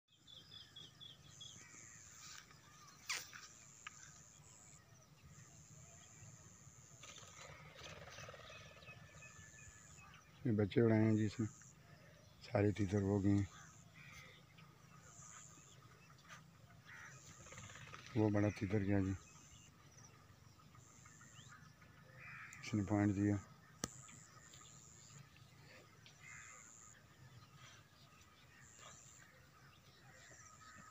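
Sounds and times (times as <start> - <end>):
distant bird calls: 0.1 - 30.9.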